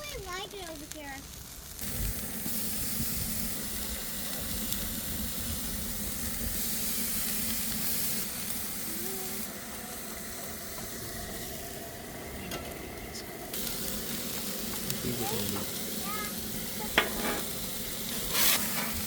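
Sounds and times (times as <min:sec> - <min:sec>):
burger patties sizzling on a grill: 0:00.0 - 0:19.0.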